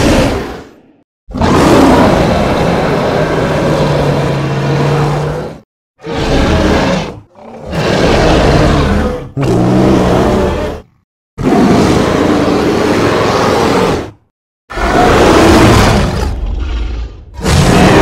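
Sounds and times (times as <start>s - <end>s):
creature roars: 0.0s - 18.0s.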